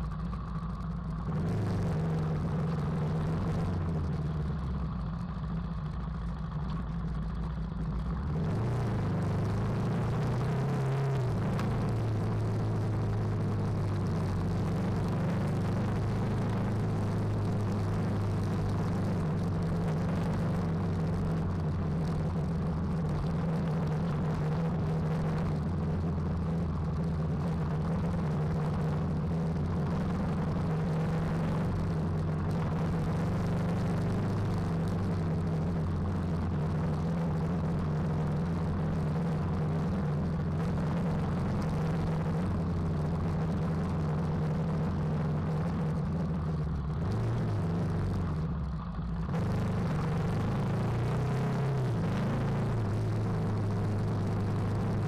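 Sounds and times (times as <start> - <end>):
single-cylinder motorcycle engine: 0.0 - 55.0.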